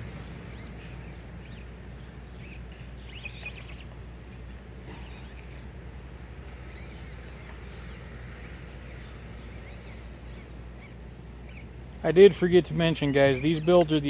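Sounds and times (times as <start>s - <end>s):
faint bird chirps: 0.0s - 5.7s, 6.4s - 12.0s, 13.0s - 14.0s
steady low rumble: 0.0s - 14.0s.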